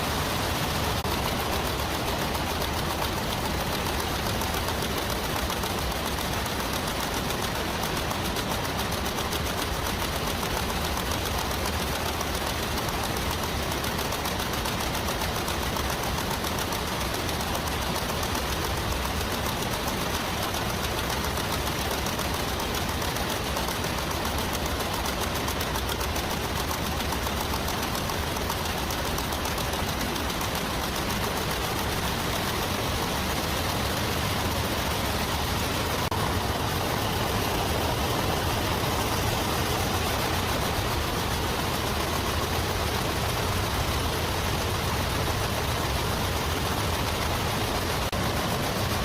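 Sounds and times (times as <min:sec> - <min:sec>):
machinery rapid mechanical clatter: 0:00.0 - 0:49.0.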